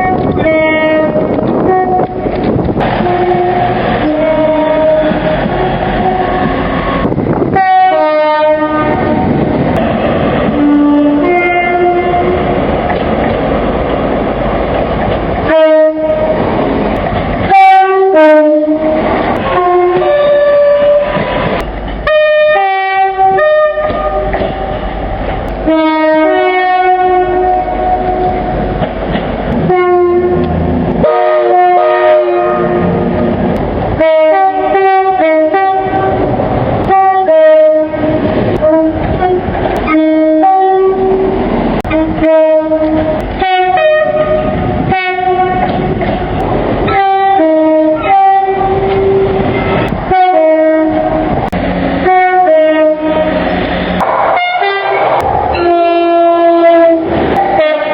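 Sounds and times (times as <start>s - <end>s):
two-tone train horn blasts: 0.0s - 9.4s, 10.5s - 12.6s, 15.4s - 16.6s, 17.4s - 24.8s, 25.6s - 28.6s, 29.5s - 57.9s
rumble of trains running: 0.0s - 57.9s.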